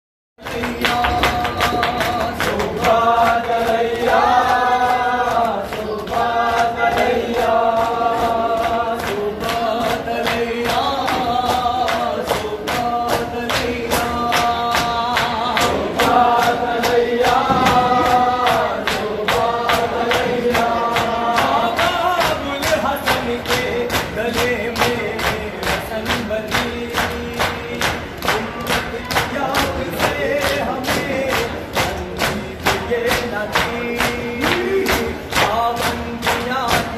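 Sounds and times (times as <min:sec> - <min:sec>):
men chanting in unison: 0:00.4 - 0:36.9.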